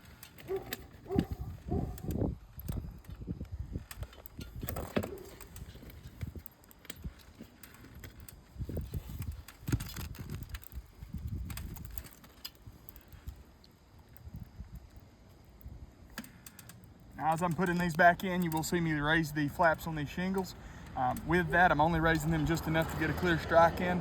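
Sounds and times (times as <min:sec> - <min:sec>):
tools clicking and rattling on shingles: 0:00.0 - 0:24.0.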